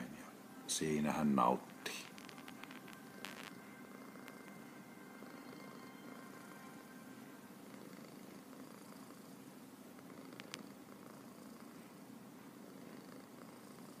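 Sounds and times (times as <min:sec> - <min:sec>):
cat purring: 0:01.6 - 0:14.0.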